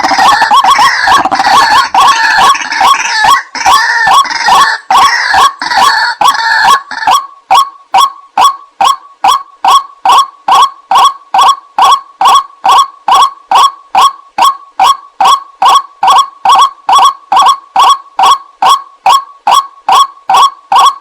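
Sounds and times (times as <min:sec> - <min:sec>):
waterhen harsh croaking calls: 0:00.0 - 0:21.0.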